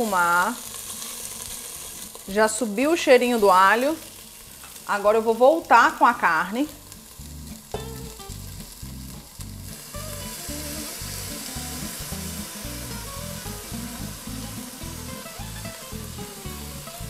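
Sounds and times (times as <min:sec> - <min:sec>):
meat sizzling in a pot: 0:00.0 - 0:17.0
soft background music: 0:00.0 - 0:17.0.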